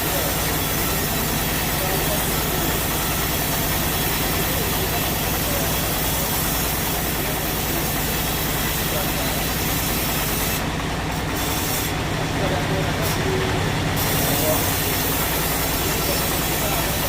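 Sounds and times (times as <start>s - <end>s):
hiss: 0.0s - 10.6s, 11.3s - 12.0s, 14.0s - 17.0s.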